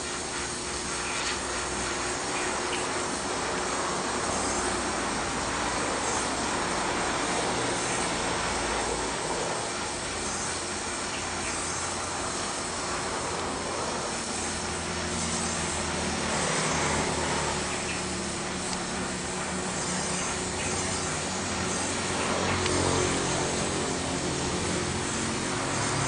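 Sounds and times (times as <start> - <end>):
machine running with hiss and hum: 0.0 - 26.0.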